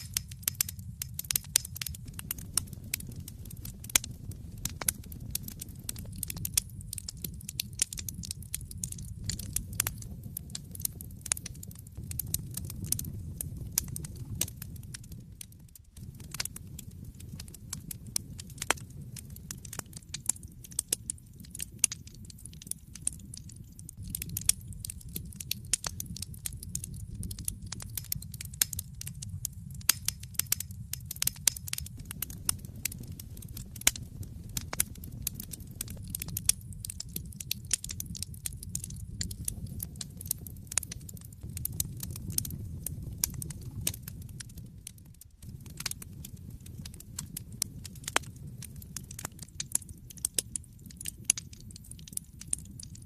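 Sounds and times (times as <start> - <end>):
fire rumbling: 0.0 - 53.0
logs crackling and popping: 0.0 - 53.0.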